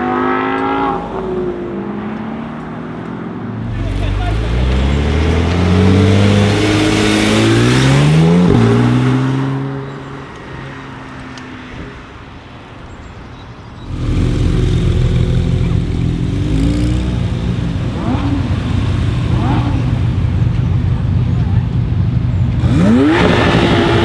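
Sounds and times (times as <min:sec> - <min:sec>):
sports car accelerating hard: 0:00.0 - 0:12.2, 0:13.7 - 0:24.0
engine running at low revs: 0:03.6 - 0:24.0.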